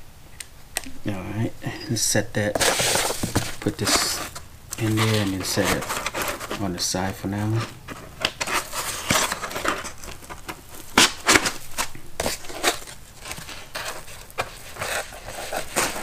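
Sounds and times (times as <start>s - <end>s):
packaging rustling and crinkling: 2.5s - 16.0s.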